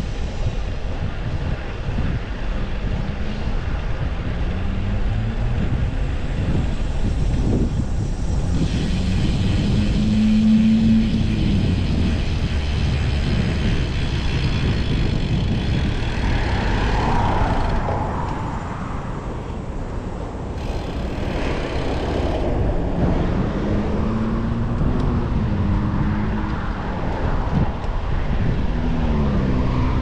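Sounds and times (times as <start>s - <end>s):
cars passing: 0.0s - 30.0s
low rumble: 0.0s - 30.0s
vehicle hum: 0.0s - 30.0s.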